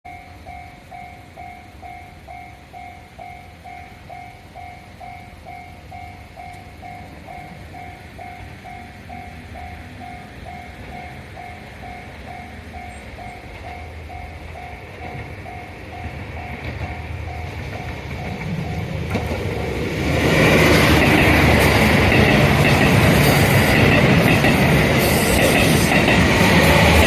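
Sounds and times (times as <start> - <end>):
train rumble: 0.1 - 27.0.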